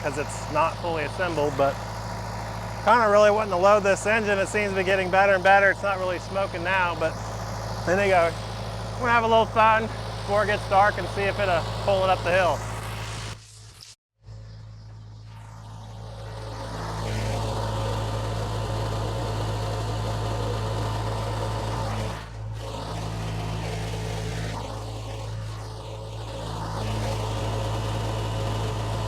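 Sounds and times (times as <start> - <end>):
diesel engine running: 0.0 - 13.4, 14.3 - 29.0.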